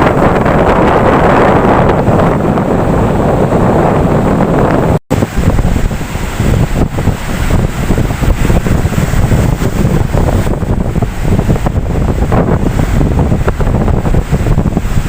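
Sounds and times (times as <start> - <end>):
ocean waves washing: 0.0 - 15.0
wind buffeting microphone: 0.0 - 15.0.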